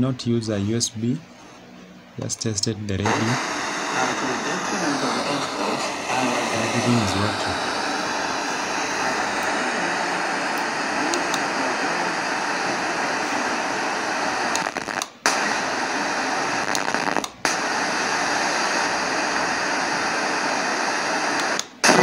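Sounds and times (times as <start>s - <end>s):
radio static hiss: 2.2s - 22.0s.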